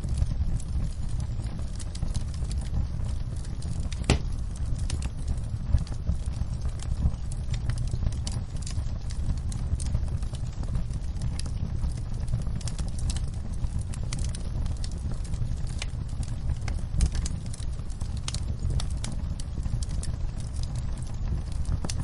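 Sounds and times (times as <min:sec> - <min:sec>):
rain pattering on window: 0:00.0 - 0:22.0
wood fire crackling: 0:00.0 - 0:22.0.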